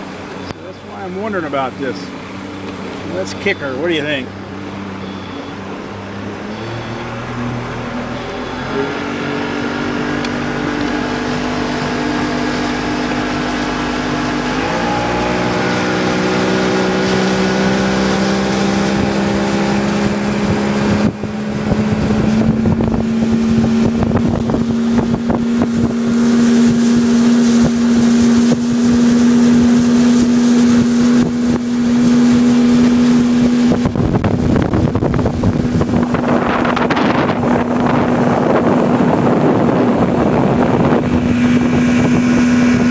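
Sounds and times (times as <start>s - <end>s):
outboard motor throttling up: 0.0s - 42.9s
water rushing: 0.0s - 42.9s
wind on microphone: 6.0s - 42.9s.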